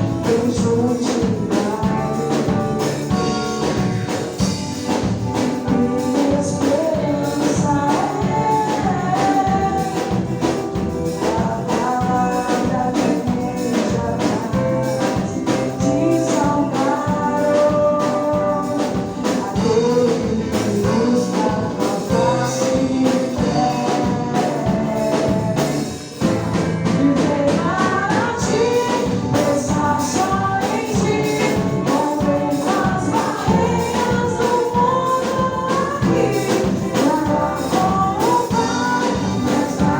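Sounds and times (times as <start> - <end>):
band playing a song: 0.0 - 39.9
percussion beat: 0.0 - 39.9
person singing: 0.0 - 39.9.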